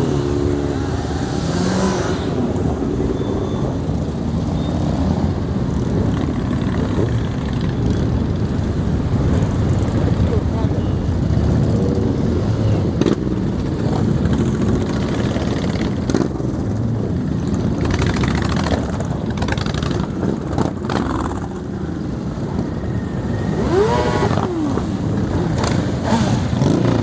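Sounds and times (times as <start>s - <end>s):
motorcycle engine revving: 0.0s - 27.0s
motorcycle engines rumbling: 0.0s - 27.0s.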